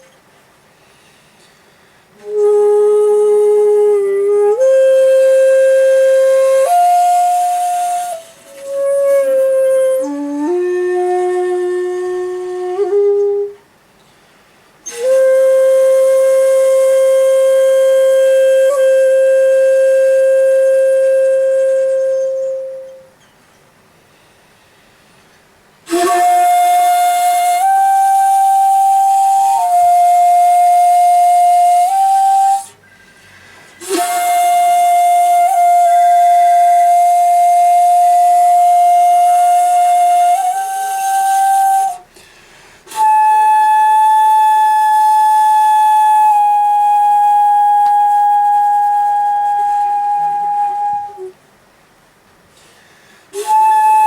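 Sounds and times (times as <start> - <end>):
bamboo flute playing: 0.0 - 0.2, 2.1 - 13.8, 14.8 - 23.3, 25.8 - 51.5, 53.3 - 54.0.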